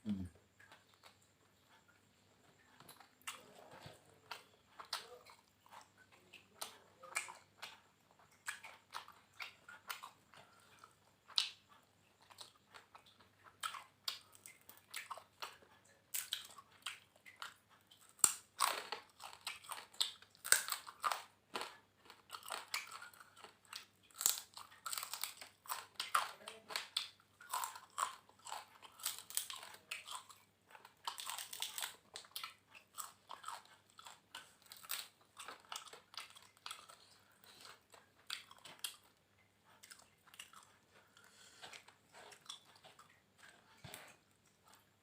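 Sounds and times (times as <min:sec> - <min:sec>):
chewing and crunching: 0:00.1 - 0:45.0.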